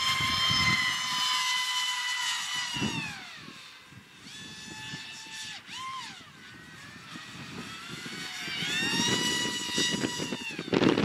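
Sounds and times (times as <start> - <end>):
electric ducted fans whining: 0.0 - 11.0.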